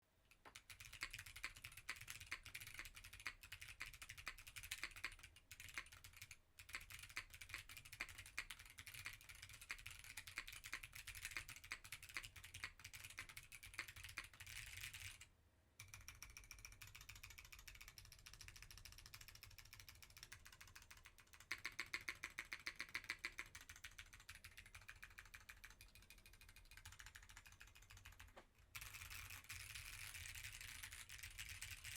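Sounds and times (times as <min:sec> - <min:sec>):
mechanical keyboard typing: 0:00.4 - 0:15.2, 0:15.8 - 0:31.9.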